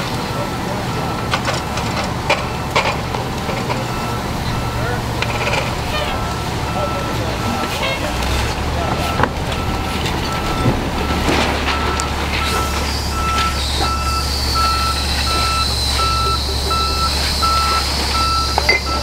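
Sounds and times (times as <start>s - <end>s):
truck engine idling: 0.0s - 19.0s
reversing alarm beeping: 0.3s - 19.0s.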